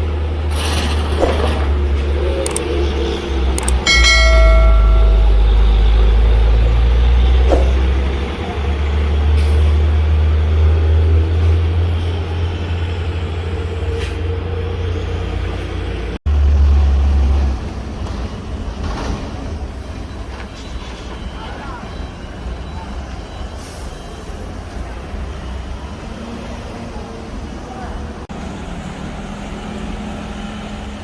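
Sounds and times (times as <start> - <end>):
truck engines rumbling: 0.0 - 31.0.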